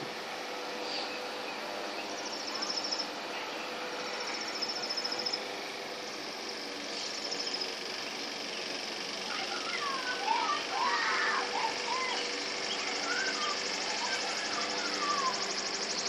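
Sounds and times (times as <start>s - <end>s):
steady outdoor hum: 0.0s - 16.0s
high rapid chittering calls: 0.8s - 16.0s.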